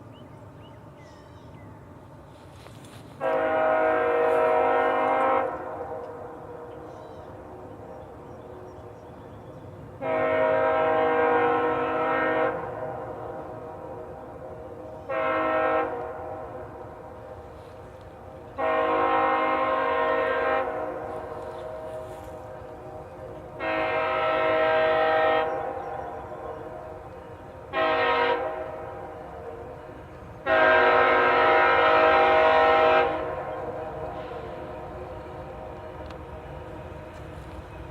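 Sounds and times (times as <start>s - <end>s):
steady train rumble: 0.0s - 37.9s
locomotive air horn chord: 2.5s - 6.9s, 10.0s - 37.6s.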